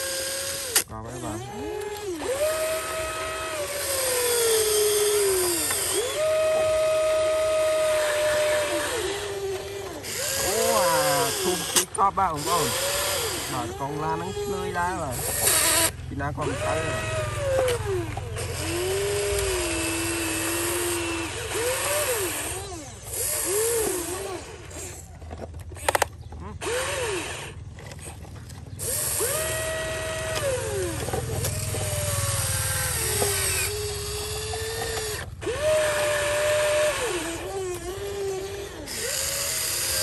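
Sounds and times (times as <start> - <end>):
small electric motors whining: 0.0 - 40.0.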